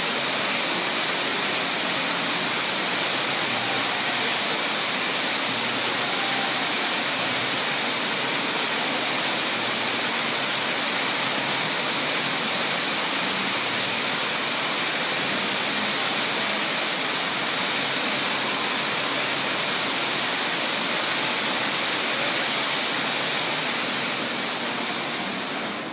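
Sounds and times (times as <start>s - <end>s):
fountain water splashing: 0.0s - 25.9s.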